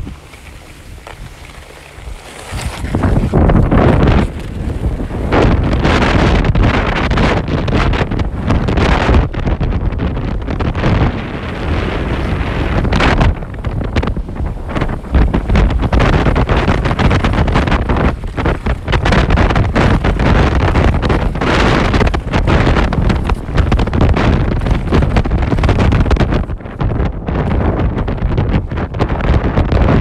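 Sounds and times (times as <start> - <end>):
skis scraping over snow: 0.0 - 30.0
wind buffeting microphone: 0.0 - 30.0.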